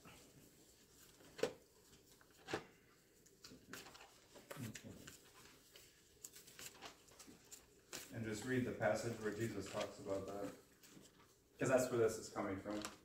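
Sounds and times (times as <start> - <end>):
pages turning: 0.8 - 13.0
faint paper rustles and taps: 1.0 - 11.4, 12.4 - 13.0.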